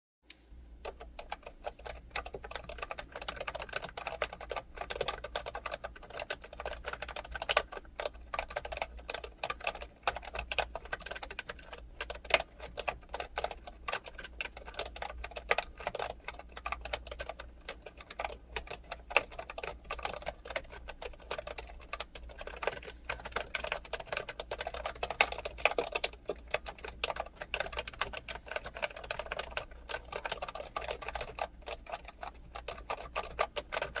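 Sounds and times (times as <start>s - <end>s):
keyboard typing: 0.7s - 34.0s.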